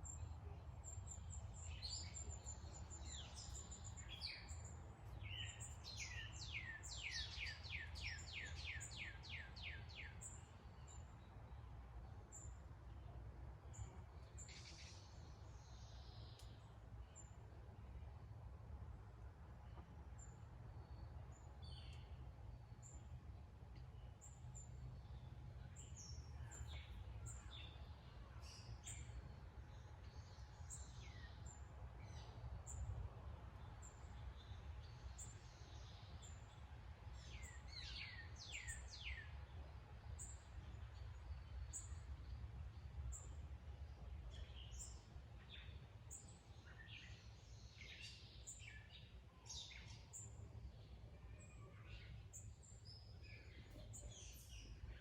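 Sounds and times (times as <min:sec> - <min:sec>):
low outdoor rumble: 0:00.0 - 0:47.8.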